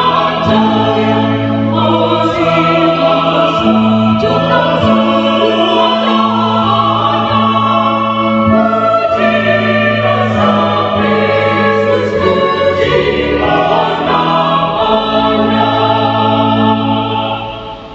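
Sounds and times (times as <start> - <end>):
choir singing a hymn: 0.0 - 17.9
keyboard accompaniment: 0.0 - 17.9.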